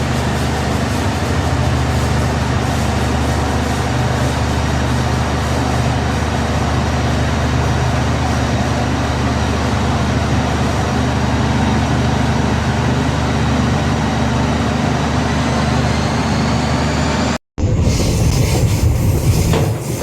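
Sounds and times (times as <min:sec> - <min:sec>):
passenger train rumbling: 0:00.0 - 0:20.0.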